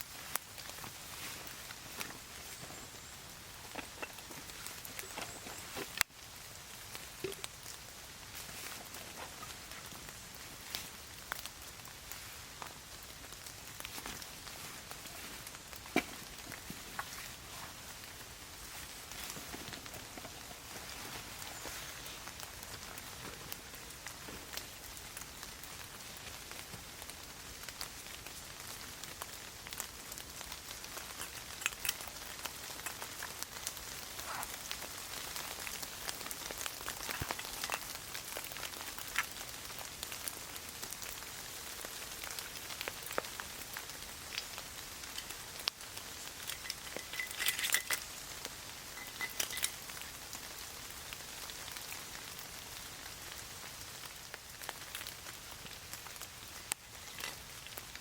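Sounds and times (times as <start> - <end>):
rain drops pattering: 0.0 - 58.0.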